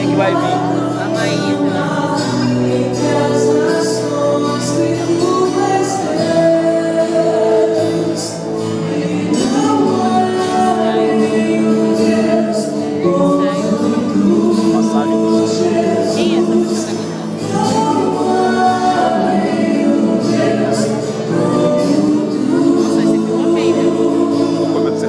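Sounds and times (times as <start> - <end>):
gospel band playing: 0.0 - 25.0.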